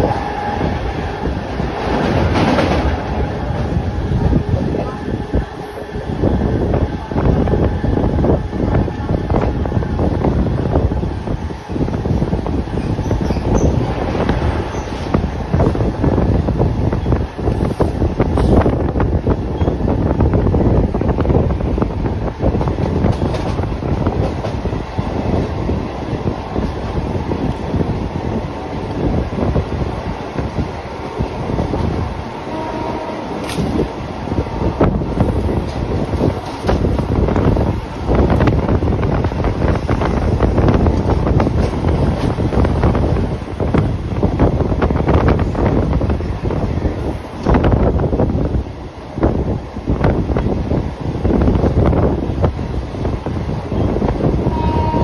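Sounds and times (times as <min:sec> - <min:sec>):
train rumbling on rails: 0:00.0 - 0:55.0
wind buffeting microphone: 0:00.0 - 0:55.0.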